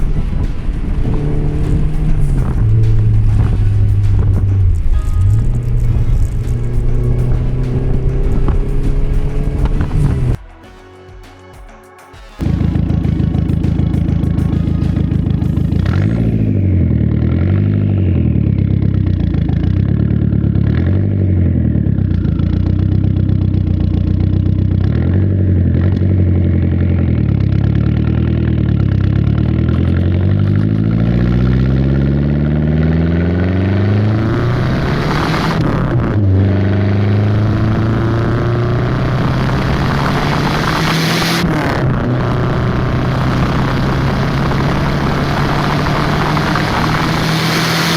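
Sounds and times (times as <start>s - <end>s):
car engine revving: 0.0s - 10.4s, 12.4s - 47.9s.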